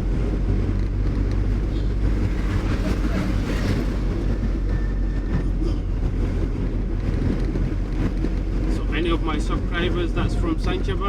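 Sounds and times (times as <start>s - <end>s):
car engine rumble: 0.0s - 11.0s
tyres on road: 0.0s - 11.0s.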